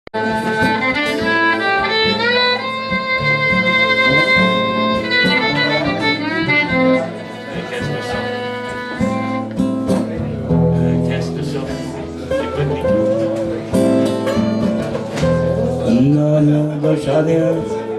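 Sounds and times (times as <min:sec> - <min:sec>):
melody instrument long notes: 0:00.2 - 0:17.9.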